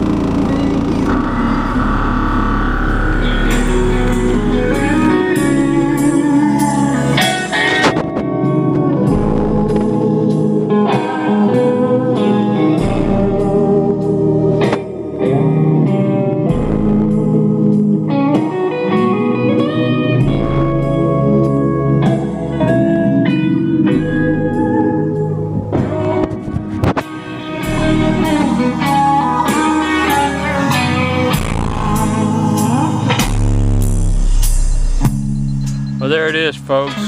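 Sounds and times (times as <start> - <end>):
blues song with slide guitar: 0.0 - 34.6
deep bass notes: 0.0 - 37.0.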